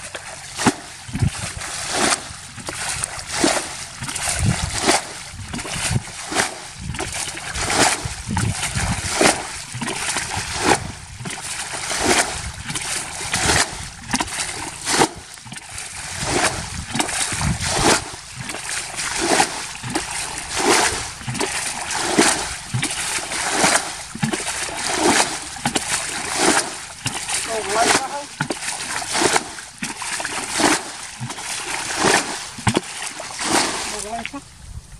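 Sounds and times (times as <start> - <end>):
bucket scooping and splashing water: 0.0 - 34.4.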